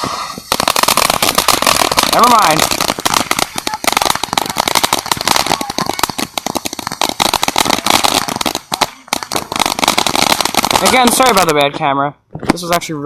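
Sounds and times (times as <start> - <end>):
firework crackling: 0.0 - 11.6.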